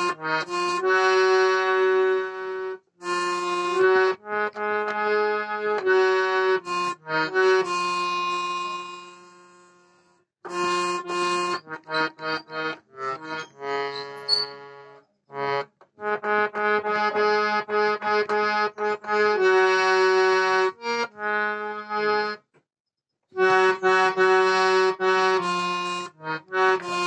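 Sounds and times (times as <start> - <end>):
harmonium notes: 0.0 - 22.5, 23.3 - 27.0.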